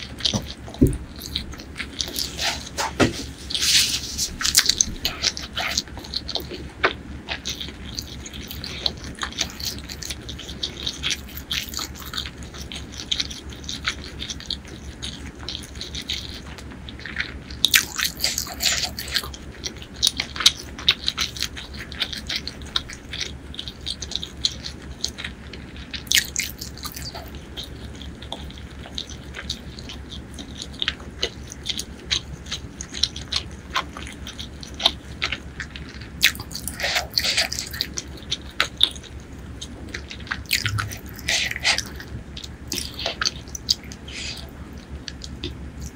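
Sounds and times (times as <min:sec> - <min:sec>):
faint low hum: 0:00.0 - 0:45.9
wet chewing mouth sounds: 0:00.0 - 0:45.9.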